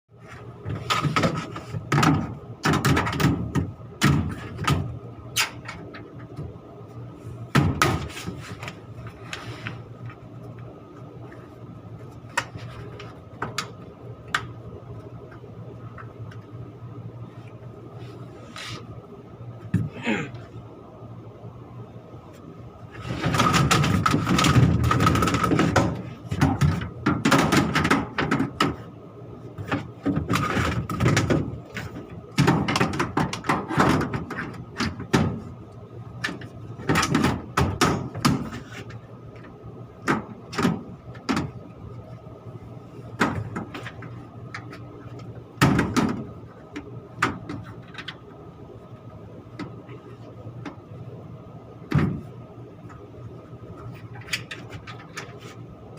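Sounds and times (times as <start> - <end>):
steady machine hum: 0.1 - 55.9.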